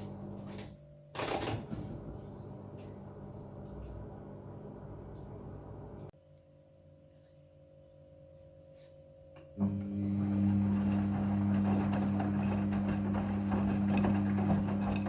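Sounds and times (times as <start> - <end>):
washing machine electric hum: 0.0 - 7.0, 7.8 - 15.0.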